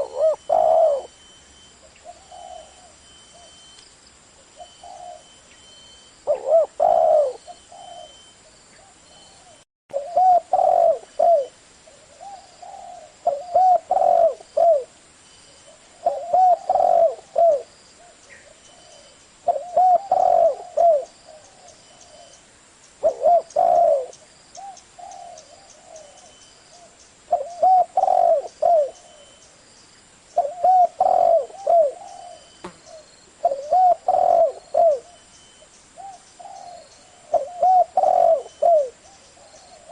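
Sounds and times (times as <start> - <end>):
dove cooing: 0.0 - 1.2, 1.8 - 3.6, 4.6 - 5.4, 6.2 - 14.9, 15.7 - 22.4, 23.0 - 29.4, 30.4 - 35.3, 36.0 - 39.9.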